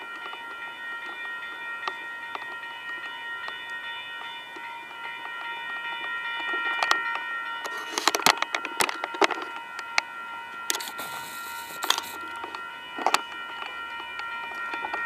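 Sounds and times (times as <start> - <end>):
crossing bell ringing: 0.0 - 15.0.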